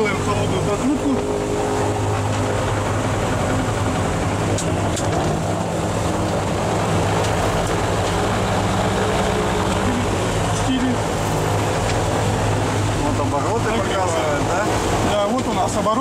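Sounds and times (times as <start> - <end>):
aircraft engine idling: 0.0 - 16.0.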